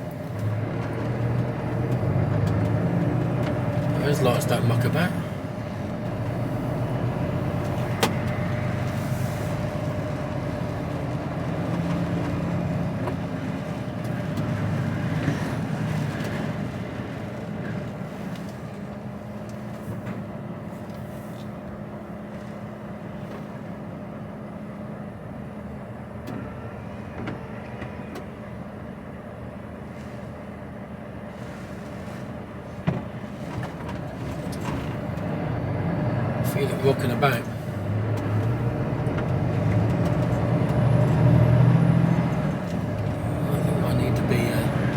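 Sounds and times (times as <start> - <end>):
diesel engine hum: 0.0 - 44.9.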